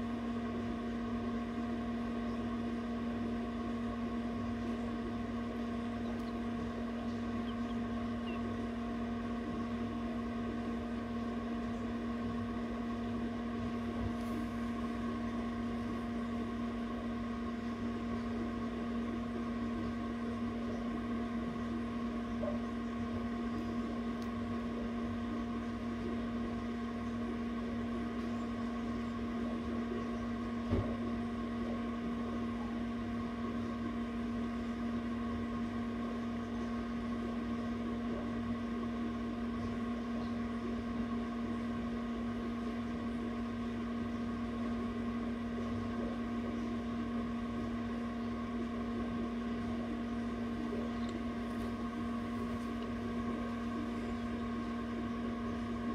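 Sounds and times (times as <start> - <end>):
fan humming: 0.0 - 55.9.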